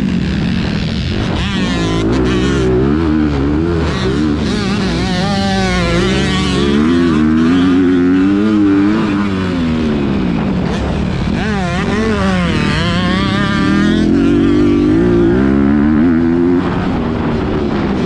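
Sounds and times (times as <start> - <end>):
motocross bike engine revving: 0.0 - 18.0.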